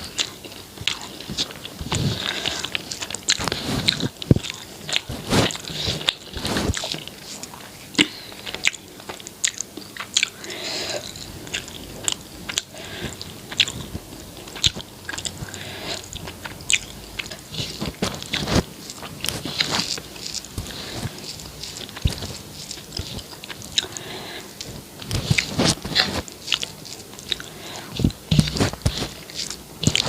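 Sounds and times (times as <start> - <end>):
person chewing food: 0.0 - 30.0.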